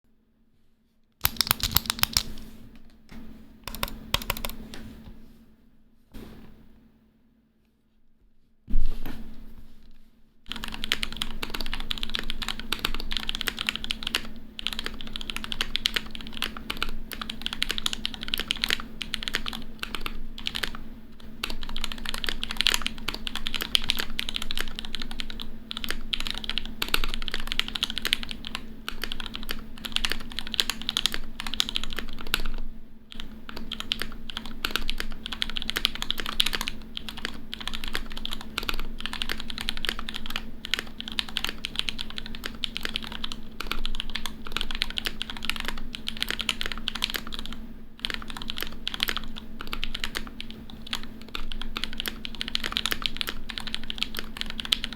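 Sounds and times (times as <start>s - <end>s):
faint steady hum: 0.1s - 54.9s
mechanical keyboard typing: 1.2s - 2.5s, 3.7s - 4.8s, 10.5s - 54.9s.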